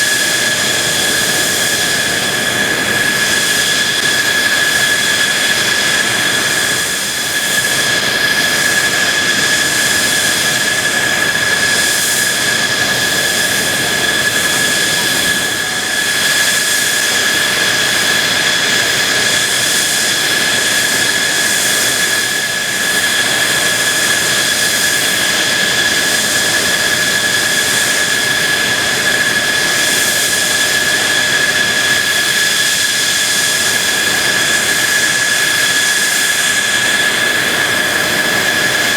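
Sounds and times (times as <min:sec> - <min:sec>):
jet engine rush and whine: 0:00.0 - 0:38.9.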